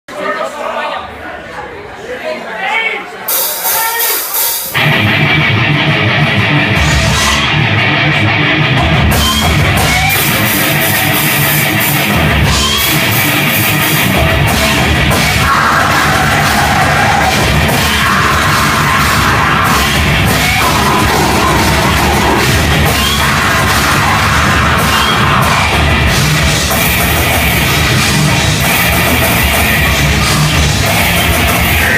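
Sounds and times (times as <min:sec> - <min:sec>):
distorted electric guitar: 0:03.3 - 0:31.9
drum kit: 0:03.3 - 0:31.9.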